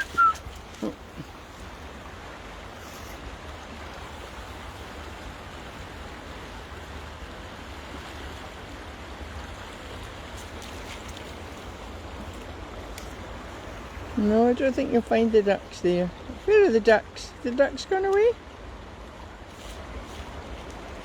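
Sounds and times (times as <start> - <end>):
flowing river water: 0.0 - 21.0.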